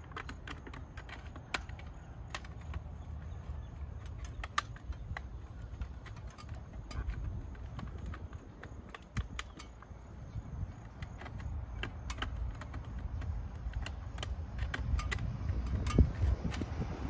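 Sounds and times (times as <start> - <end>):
hand tool clicks and scrapes: 0.0 - 17.0.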